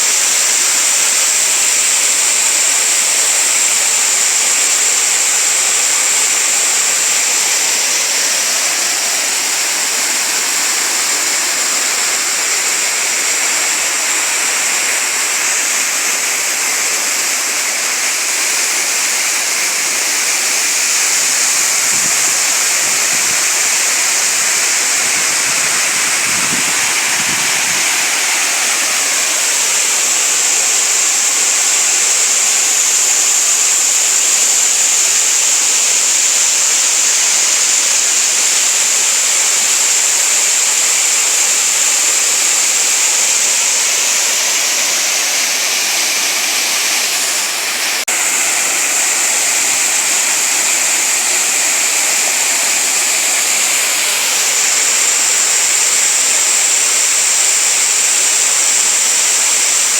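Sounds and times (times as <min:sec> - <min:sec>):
water splashing into a pool: 0:00.0 - 0:59.9.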